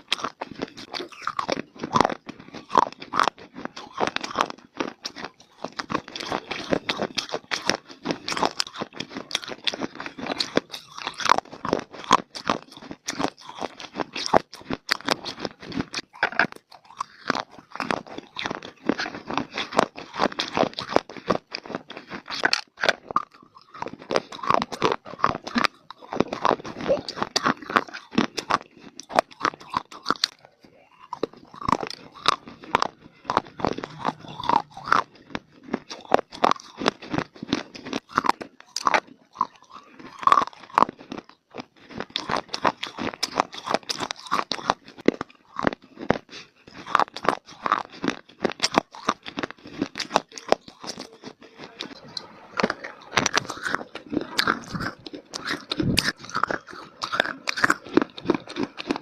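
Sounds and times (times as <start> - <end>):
chewing brittle clay crunches: 0.0 - 59.0.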